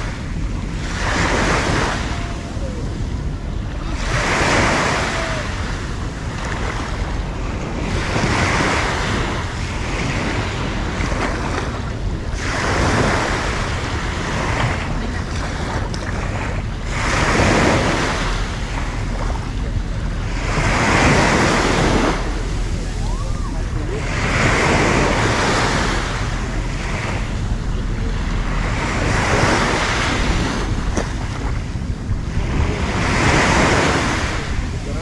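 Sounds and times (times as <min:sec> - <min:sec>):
small waves breaking on sand: 0:00.0 - 0:35.0
wind rumble on microphone: 0:00.0 - 0:35.0.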